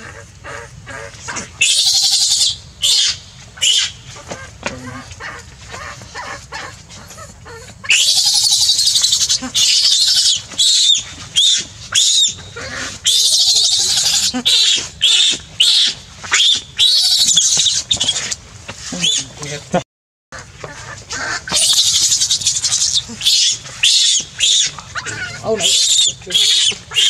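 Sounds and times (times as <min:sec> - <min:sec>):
infant monkey screaming: 0:00.0 - 0:19.5, 0:20.4 - 0:27.0.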